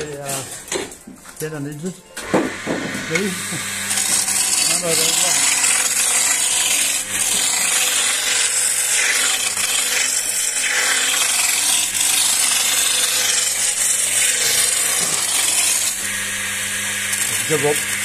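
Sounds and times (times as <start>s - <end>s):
chisel cutting wood on lathe: 0.0s - 0.8s, 2.2s - 18.0s
lathe motor hum: 2.2s - 18.0s.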